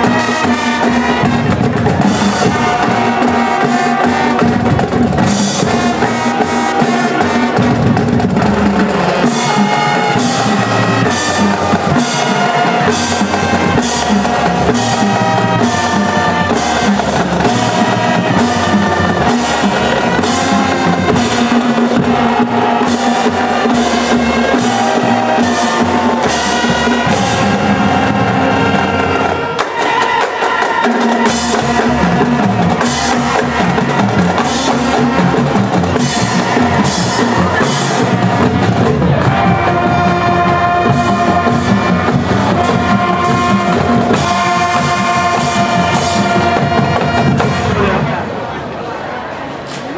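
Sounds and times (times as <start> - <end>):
snare and bass drums: 0.0 - 48.2
brass sustained notes: 0.0 - 49.5.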